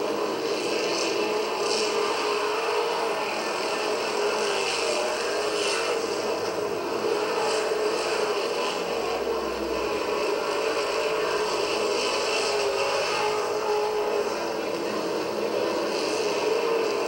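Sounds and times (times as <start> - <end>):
racing car engines droning: 0.0 - 17.0.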